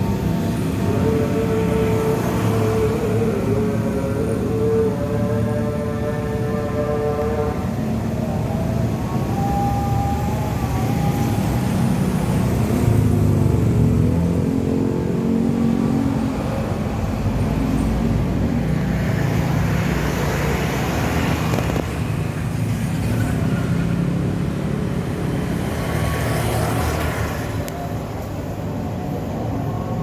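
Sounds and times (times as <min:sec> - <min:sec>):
traffic noise: 0:00.0 - 0:30.0
vehicle engines running: 0:00.0 - 0:30.0.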